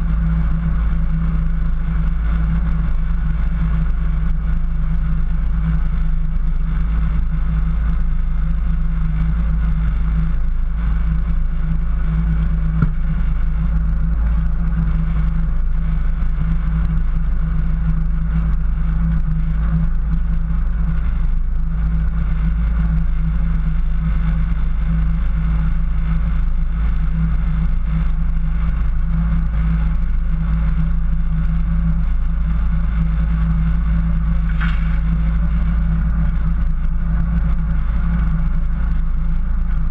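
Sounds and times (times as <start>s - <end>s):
car engine running low: 0.0s - 39.9s.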